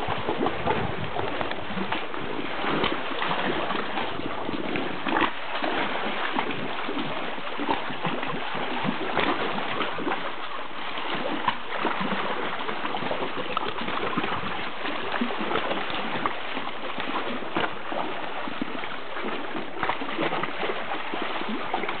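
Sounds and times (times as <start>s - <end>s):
water lapping against kayak: 0.0s - 22.0s.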